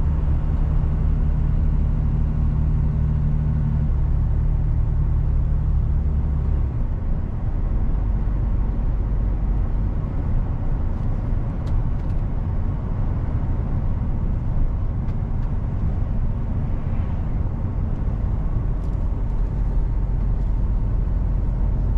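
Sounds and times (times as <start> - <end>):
road and tyre noise: 0.0 - 21.9.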